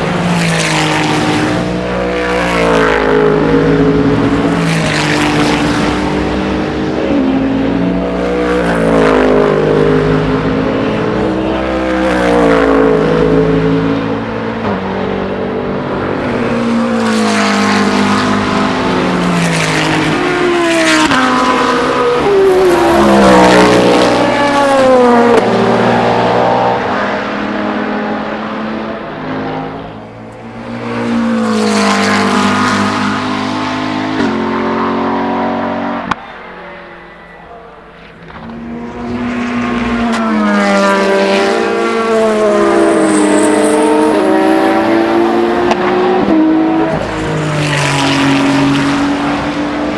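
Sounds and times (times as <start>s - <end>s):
race cars passing at speed: 0.0s - 49.9s.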